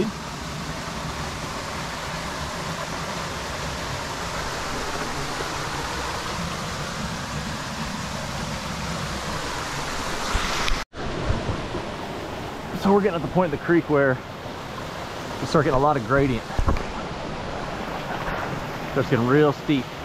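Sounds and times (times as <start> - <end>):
creek water rushing over rocks: 0.0 - 20.0.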